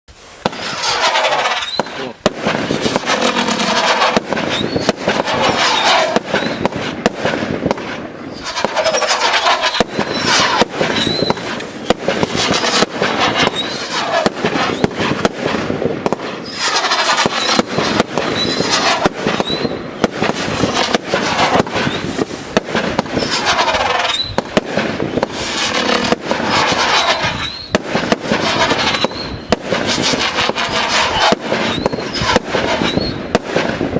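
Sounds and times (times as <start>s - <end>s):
firework bursts cracking: 0.1s - 33.9s
firework whistles: 0.1s - 33.9s.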